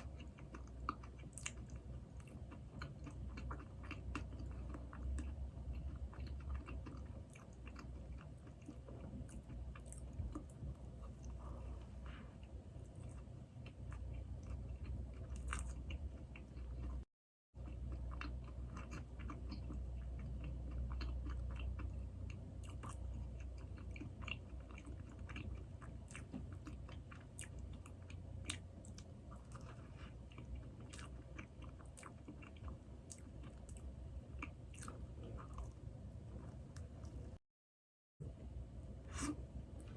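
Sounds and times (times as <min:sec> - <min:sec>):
chewing and biting doughnuts: 0:00.0 - 0:37.4.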